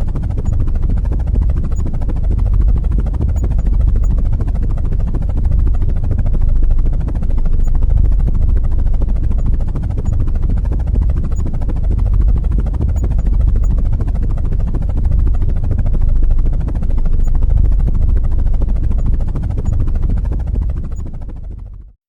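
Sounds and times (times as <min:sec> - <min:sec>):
helicopter rotor chopping: 0:00.0 - 0:21.8.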